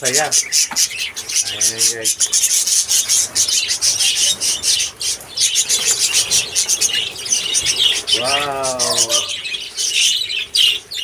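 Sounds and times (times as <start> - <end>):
lovebirds chattering: 0.0 - 11.0.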